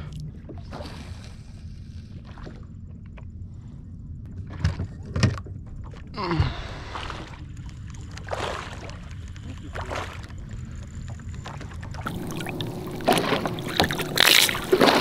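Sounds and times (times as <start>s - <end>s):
water noise around a boat: 0.0s - 15.0s.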